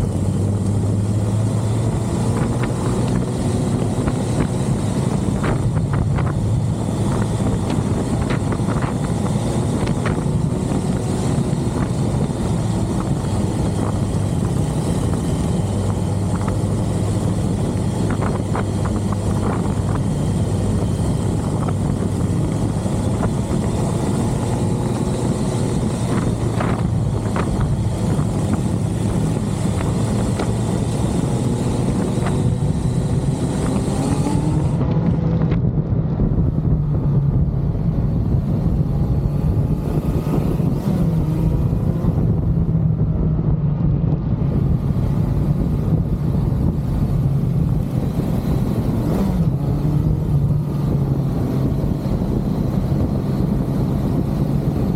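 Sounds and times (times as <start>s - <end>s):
motorcycle engine hum: 0.0s - 54.9s
wind rush: 0.0s - 54.9s.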